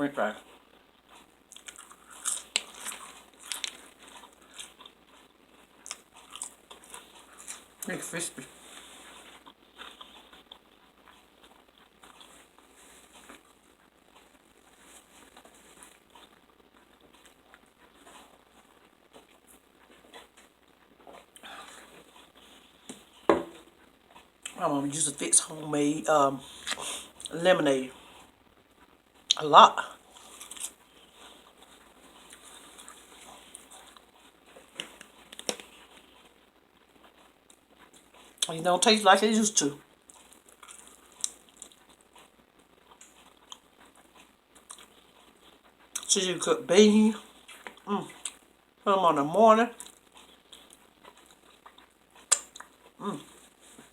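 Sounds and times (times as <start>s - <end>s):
chewing crispy fries: 0.3s - 46.2s, 46.9s - 48.8s, 49.7s - 53.9s.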